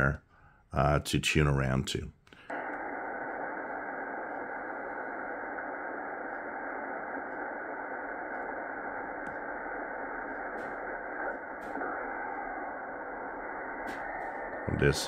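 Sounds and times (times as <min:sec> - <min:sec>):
radio static hiss: 0:00.8 - 0:15.0.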